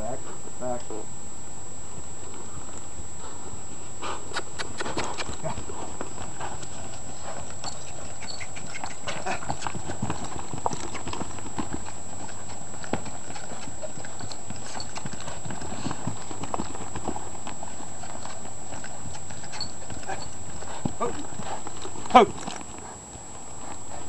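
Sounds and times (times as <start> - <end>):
horse hooves on soft dirt: 1.8 - 24.0.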